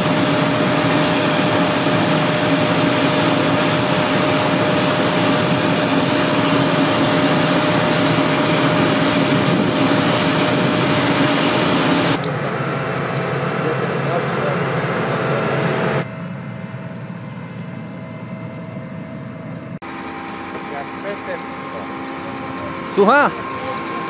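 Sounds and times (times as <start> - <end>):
combine harvester engine drone: 0.0 - 24.0.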